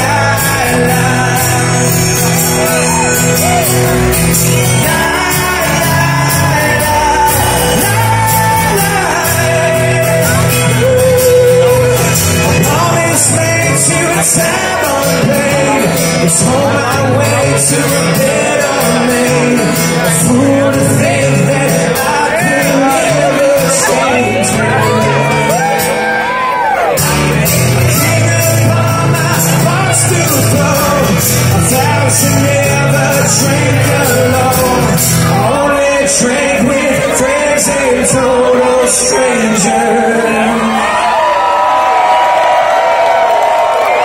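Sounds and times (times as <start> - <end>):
live rock band playing: 0.0 - 40.9
voices singing together: 0.0 - 41.3.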